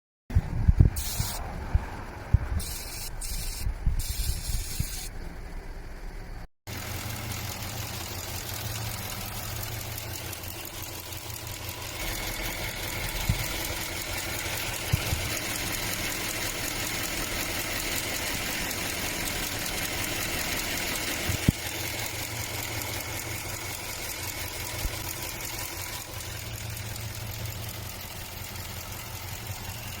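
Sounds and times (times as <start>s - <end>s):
car engine idling: 0.3s - 30.0s.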